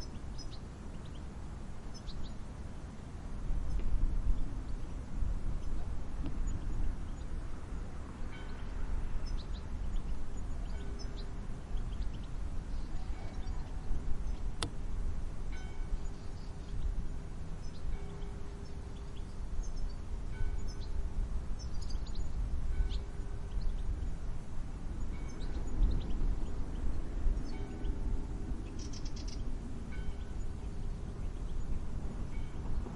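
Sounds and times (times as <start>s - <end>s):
wind gusting: 0.0s - 32.9s.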